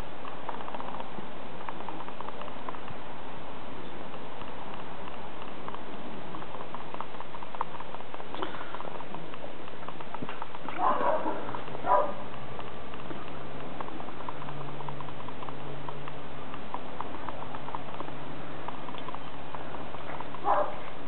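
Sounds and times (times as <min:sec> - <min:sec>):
patter of small ticks: 0:00.0 - 0:21.0.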